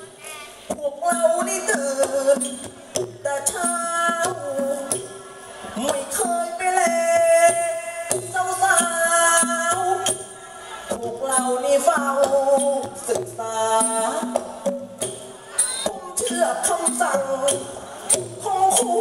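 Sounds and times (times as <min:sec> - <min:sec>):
person singing into a microphone: 0:00.0 - 0:19.0.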